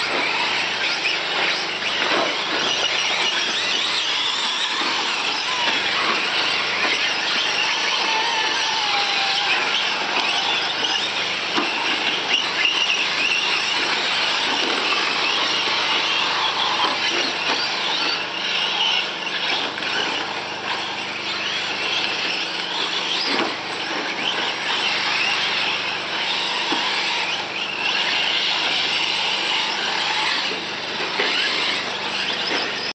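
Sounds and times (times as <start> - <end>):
rc truck motors whining: 0.0 - 32.9.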